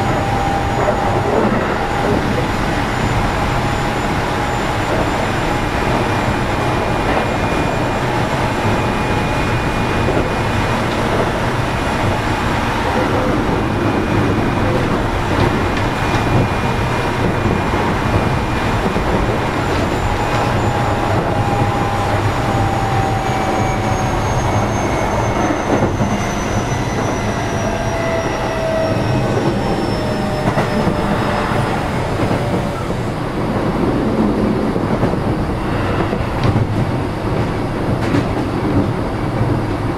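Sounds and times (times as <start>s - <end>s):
train motor whine: 0.0s - 33.2s
train wheels rumbling on rail: 0.0s - 39.9s.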